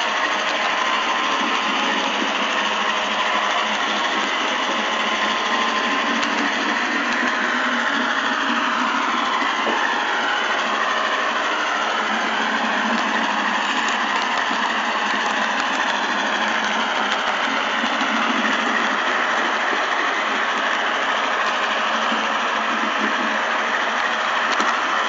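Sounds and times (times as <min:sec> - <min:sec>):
model train motor whirring rattle: 0:00.0 - 0:25.0.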